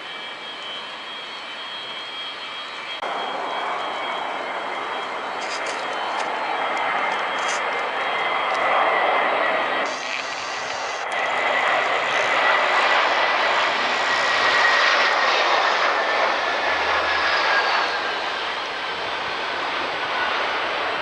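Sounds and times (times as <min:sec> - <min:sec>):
jet engines rushing and whining: 0:00.0 - 0:21.0.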